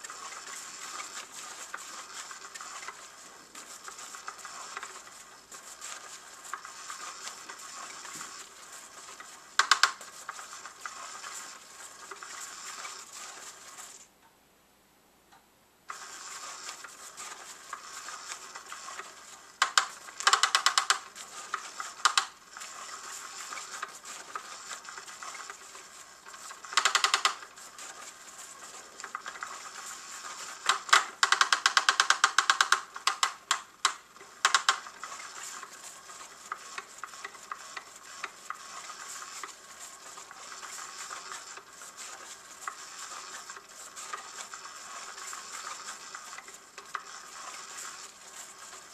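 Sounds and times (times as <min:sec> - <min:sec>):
small toy motor whirring: 0:00.0 - 0:14.1, 0:15.9 - 0:48.9
wand scratching under fabric: 0:00.0 - 0:14.1, 0:15.9 - 0:48.9.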